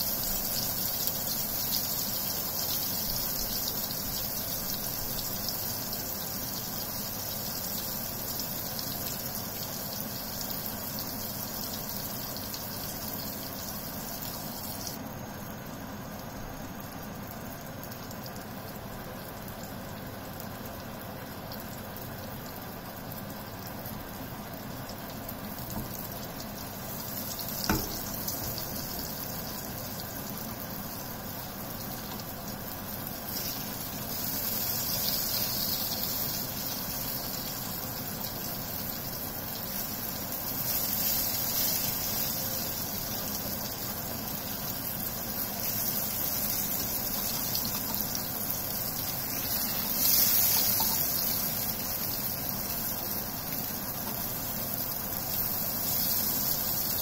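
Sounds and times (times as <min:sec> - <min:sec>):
vegetable slices sizzling in oil: 0:00.0 - 0:15.7, 0:16.3 - 0:57.0.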